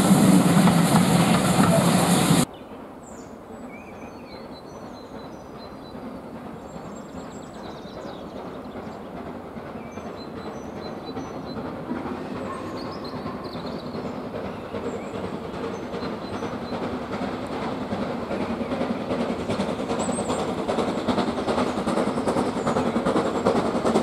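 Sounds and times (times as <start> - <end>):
steam locomotive chugging: 0.0 - 24.0.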